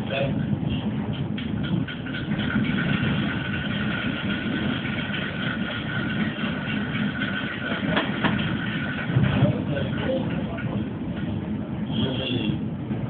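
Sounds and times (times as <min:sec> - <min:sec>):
high whine: 0:00.0 - 0:13.0
train rumbling: 0:00.0 - 0:13.0.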